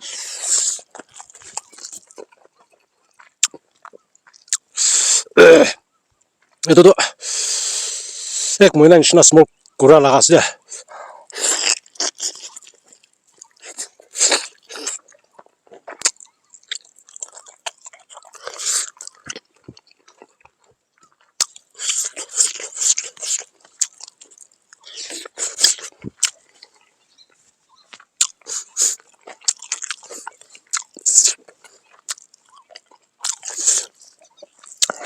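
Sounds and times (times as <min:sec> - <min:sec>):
person chewing crunchy food: 0:00.0 - 0:06.7, 0:11.2 - 0:35.0.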